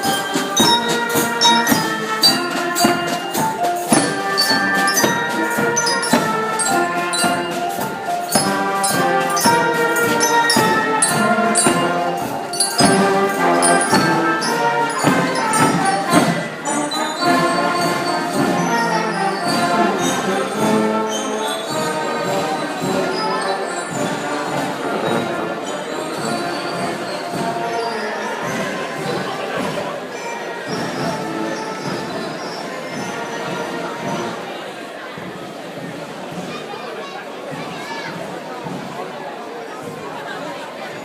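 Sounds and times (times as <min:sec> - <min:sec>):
brass and percussion music: 0:00.0 - 0:36.6.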